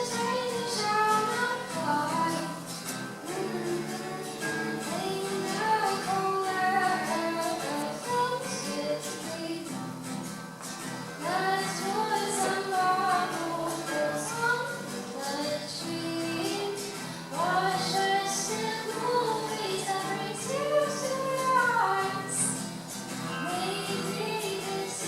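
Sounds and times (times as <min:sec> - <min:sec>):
high voices singing: 0:00.0 - 0:10.1, 0:10.9 - 0:25.0.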